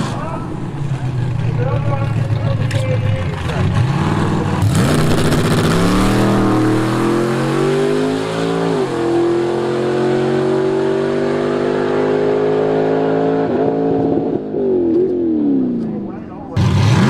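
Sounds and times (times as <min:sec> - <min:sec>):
car engine at full throttle: 0:00.0 - 0:17.0.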